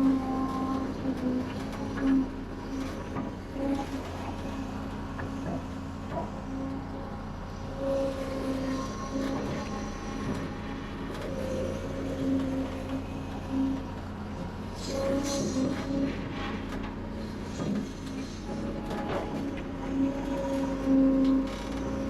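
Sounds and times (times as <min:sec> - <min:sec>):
heavy diesel machinery engine drone: 0:00.0 - 0:22.0.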